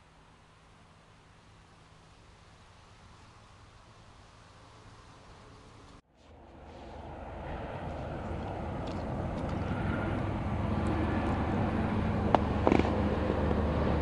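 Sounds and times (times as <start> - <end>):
distant road traffic rumble: 0.0 - 14.0.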